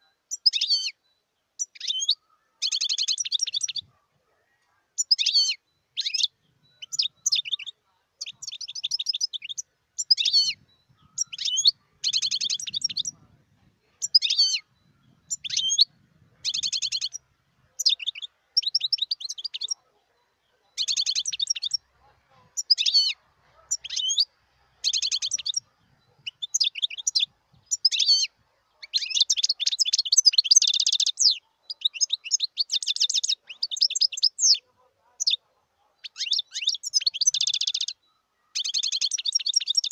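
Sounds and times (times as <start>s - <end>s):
goldfinch singing: 0.0s - 39.9s.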